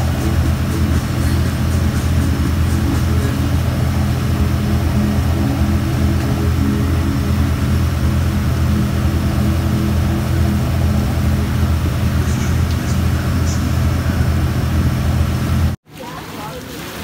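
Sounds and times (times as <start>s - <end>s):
boat engine humming: 0.0s - 16.4s
water rushing along hull: 0.0s - 17.0s.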